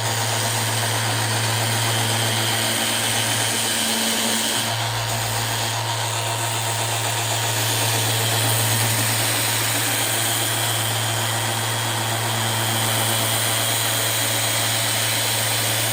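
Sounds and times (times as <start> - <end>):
electric sander running: 0.0 - 15.9.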